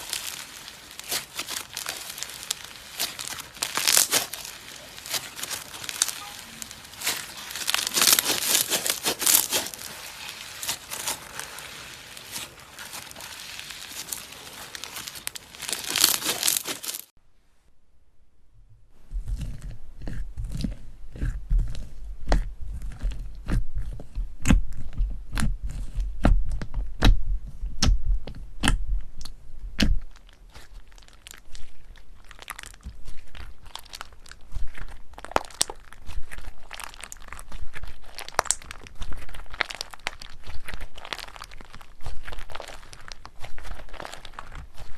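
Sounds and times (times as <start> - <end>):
slime crackling and crunching: 0.0 - 17.2, 19.2 - 27.2, 27.8 - 44.9.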